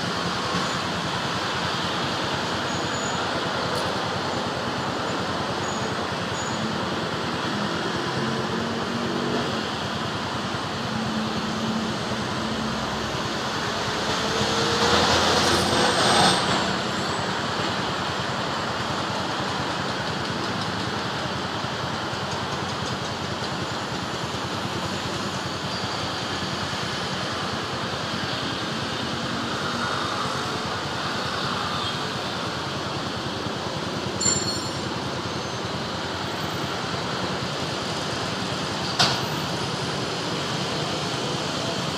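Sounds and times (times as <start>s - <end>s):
road traffic hum: 0.0s - 41.9s.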